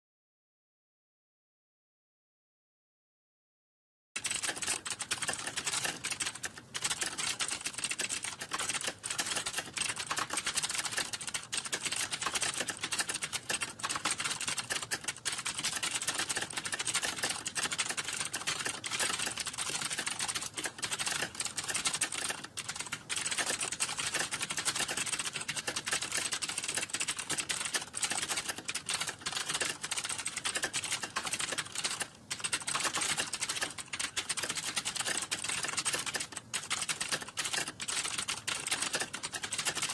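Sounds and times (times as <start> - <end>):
fast keyboard typing: 4.2 - 39.9.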